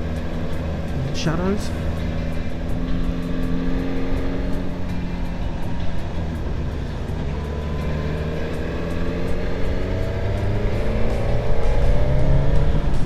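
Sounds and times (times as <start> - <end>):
motorcycle engine accelerating: 0.0 - 13.0
wind and road noise: 0.0 - 13.0.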